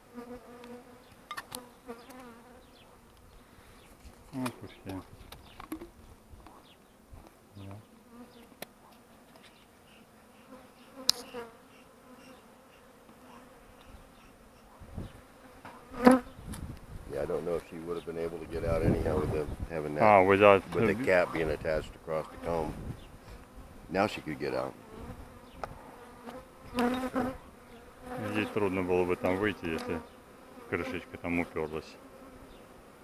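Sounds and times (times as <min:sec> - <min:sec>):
honeybees buzzing: 0:00.0 - 0:06.8, 0:07.4 - 0:33.0.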